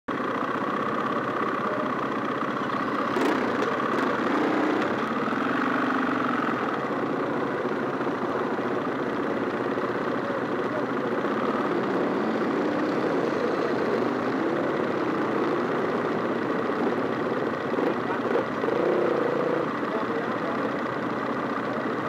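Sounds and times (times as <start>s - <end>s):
motorcycle engines idling: 0.1s - 22.0s.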